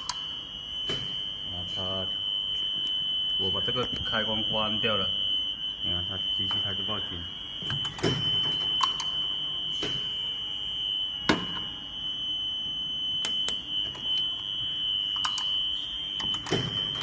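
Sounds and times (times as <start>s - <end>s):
high-pitched alarm buzzer: 0.0s - 17.0s.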